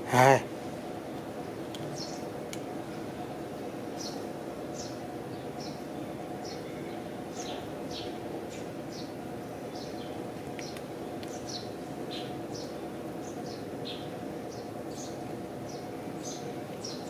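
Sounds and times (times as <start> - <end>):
low background hum: 0.0 - 17.0
small birds chirping: 0.2 - 17.0.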